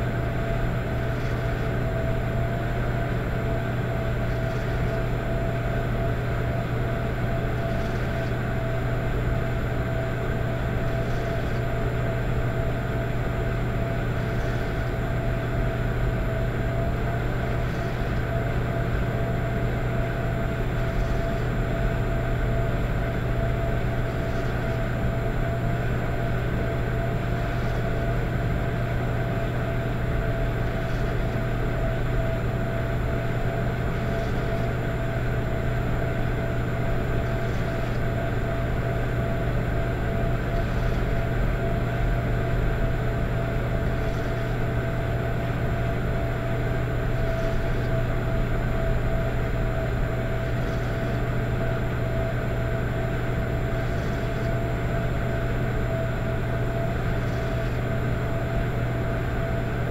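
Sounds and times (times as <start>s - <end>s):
electric fireplace hum: 0.0s - 59.9s.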